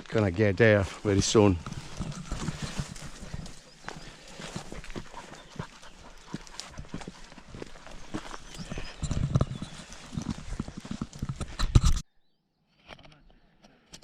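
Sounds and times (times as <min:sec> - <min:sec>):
footsteps on rough ground: 0:00.0 - 0:12.1.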